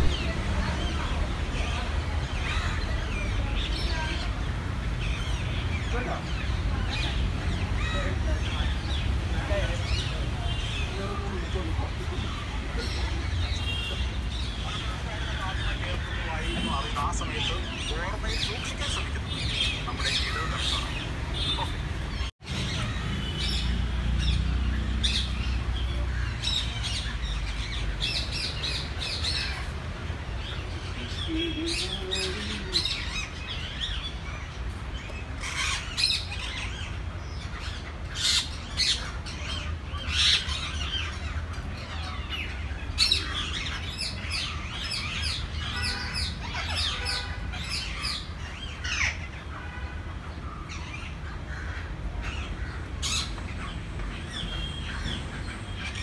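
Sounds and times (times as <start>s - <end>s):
birds squawking and chirping: 0.0s - 56.0s.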